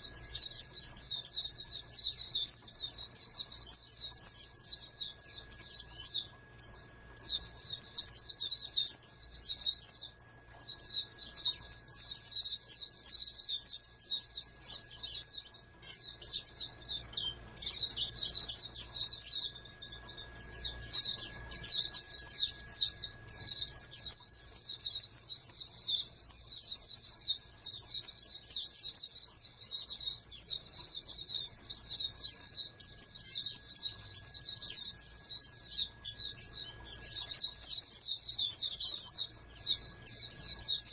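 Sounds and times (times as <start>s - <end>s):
songbird twittering: 0.0s - 40.9s.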